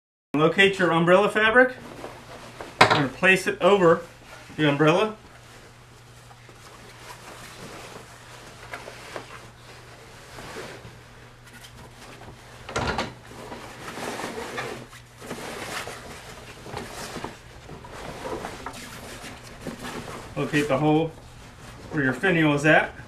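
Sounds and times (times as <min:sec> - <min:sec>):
canvas rustling and flapping: 0:01.8 - 0:12.6, 0:13.2 - 0:22.8.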